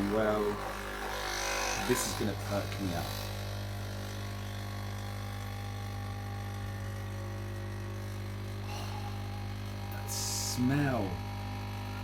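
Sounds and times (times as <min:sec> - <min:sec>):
coffee machine pump buzzing: 0:00.0 - 0:12.0.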